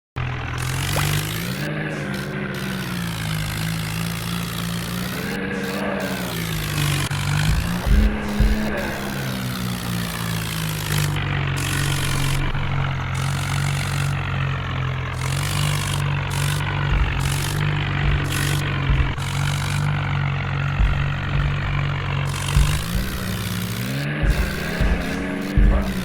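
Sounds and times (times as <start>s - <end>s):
tractor diesel engine running: 0.2s - 26.0s.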